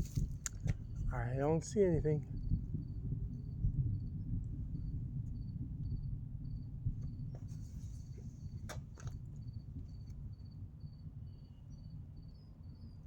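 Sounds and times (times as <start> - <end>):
low rumble: 0.0 - 11.4
cricket chirping: 0.0 - 13.0.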